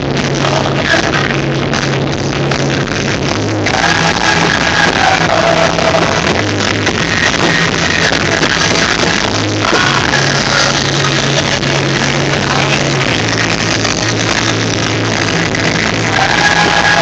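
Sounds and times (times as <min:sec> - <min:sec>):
electronic rock music: 0:00.0 - 0:17.0.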